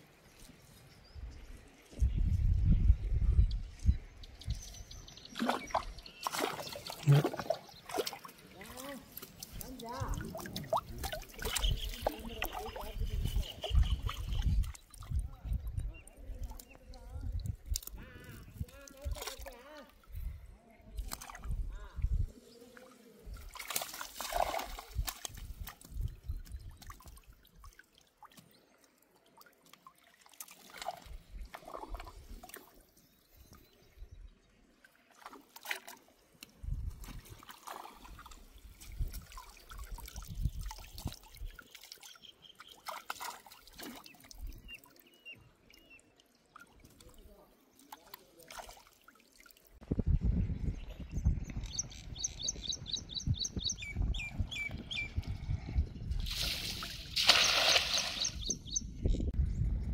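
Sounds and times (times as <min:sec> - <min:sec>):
water trickling and splashing: 0:03.8 - 0:49.9, 0:56.0 - 0:58.7.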